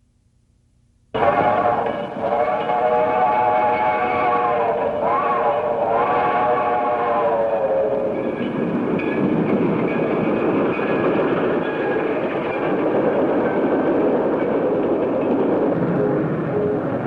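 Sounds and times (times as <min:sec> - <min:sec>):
train wheels rumbling: 0:01.2 - 0:17.0.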